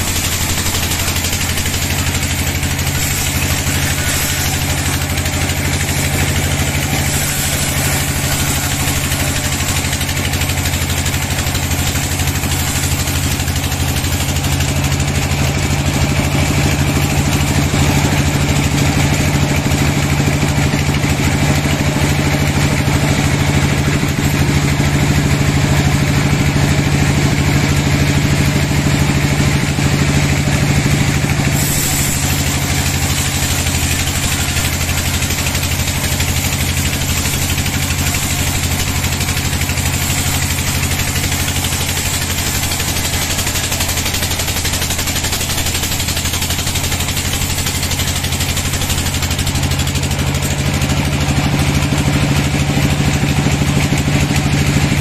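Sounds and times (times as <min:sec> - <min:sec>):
bandsaw cutting log: 0:00.0 - 0:55.0.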